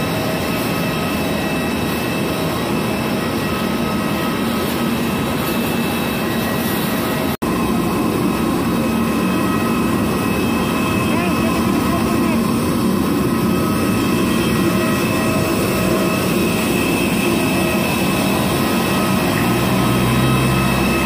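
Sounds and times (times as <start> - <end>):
jet aircraft roar with whine: 0.0 - 21.0.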